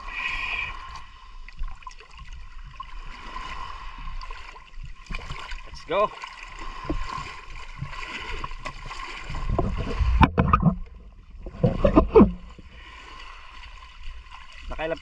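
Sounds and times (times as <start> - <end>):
seawater sloshing and splashing: 0.7 - 15.0.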